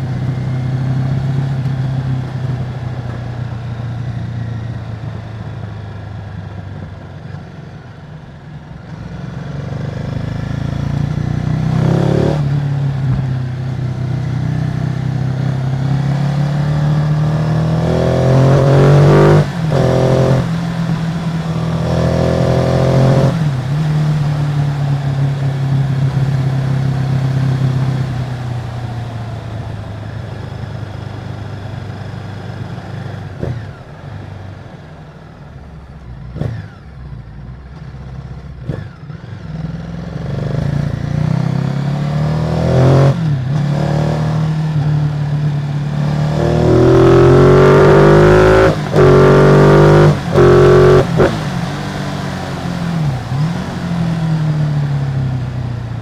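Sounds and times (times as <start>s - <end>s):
motorcycle engine revving: 0.0s - 6.3s, 9.0s - 56.0s.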